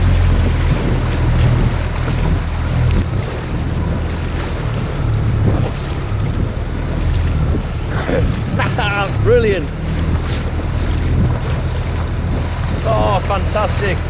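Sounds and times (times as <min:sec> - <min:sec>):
water sloshing around boat: 0:00.0 - 0:14.0
wind buffeting microphone: 0:00.0 - 0:14.0.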